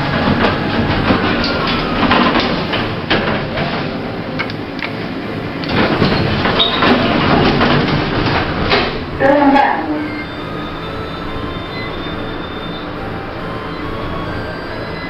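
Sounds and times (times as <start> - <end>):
clunks and rattles: 0.0 - 15.0
lift doors sliding: 0.0 - 15.0
noisy background: 0.0 - 15.0.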